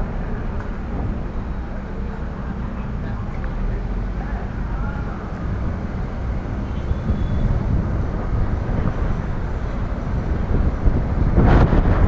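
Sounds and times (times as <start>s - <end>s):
car engine rumbling: 0.0s - 12.0s
tyres on road: 0.0s - 12.0s
wind: 0.0s - 12.0s.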